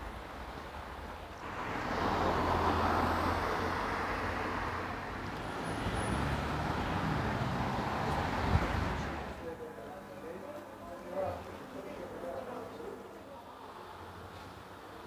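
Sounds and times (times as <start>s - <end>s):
road traffic noise: 0.0s - 10.3s, 11.2s - 15.0s.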